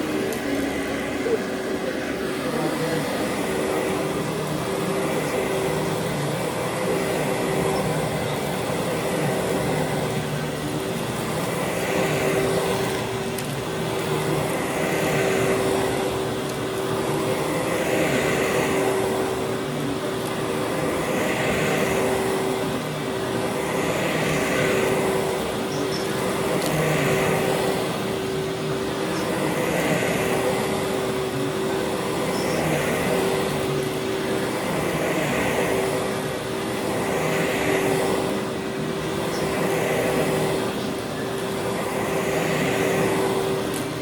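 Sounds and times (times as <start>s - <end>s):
vacuum cleaner on carpet: 0.0s - 44.0s.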